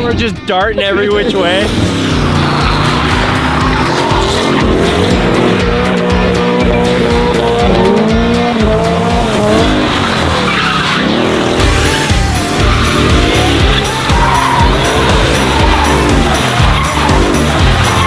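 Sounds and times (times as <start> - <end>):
background music with steady beat: 0.0 - 18.0
car engines revving: 0.0 - 18.0.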